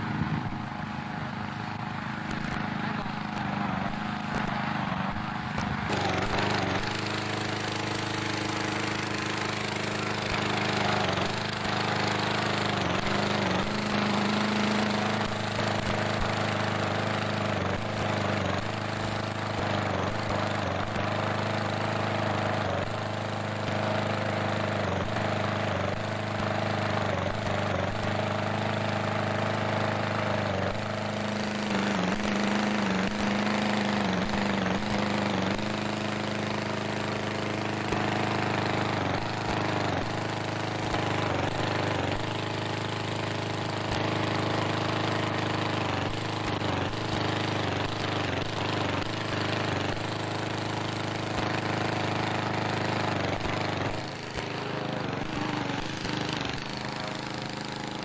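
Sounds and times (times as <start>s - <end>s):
engine-driven fan blowing air: 0.0s - 58.0s.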